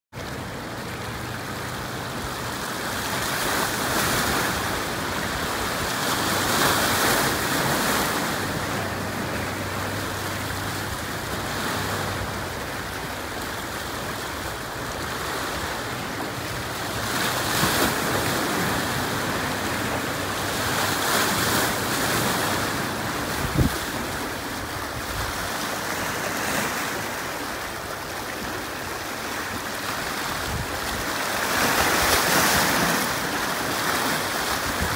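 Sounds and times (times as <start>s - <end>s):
boat engine droning: 0.2s - 34.9s
waves splashing against rocks: 0.2s - 34.9s.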